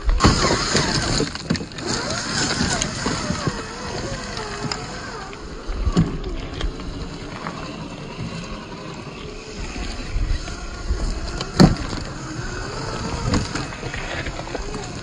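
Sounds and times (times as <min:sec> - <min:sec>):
electric motor whining: 0:00.0 - 0:15.0
wind rumble on microphone: 0:00.0 - 0:15.0.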